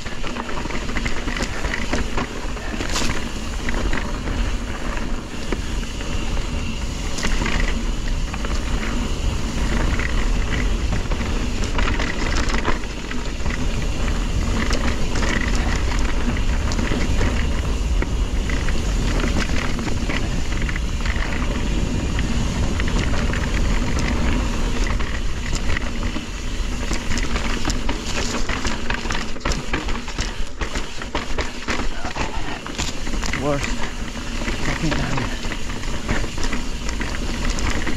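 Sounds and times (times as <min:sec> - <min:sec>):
bike clicks and rattles: 0:00.0 - 0:37.9
bike tyres on dirt and rocks: 0:00.0 - 0:37.9
wind rumble on microphone: 0:00.0 - 0:37.9.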